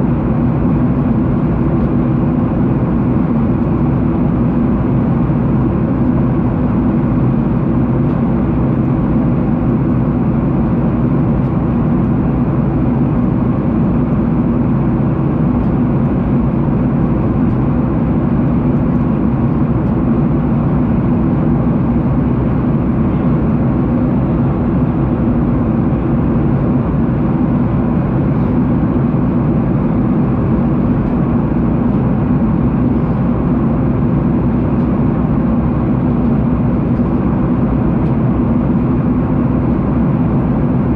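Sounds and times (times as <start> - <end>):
jet airliner cabin noise: 0.0 - 40.9.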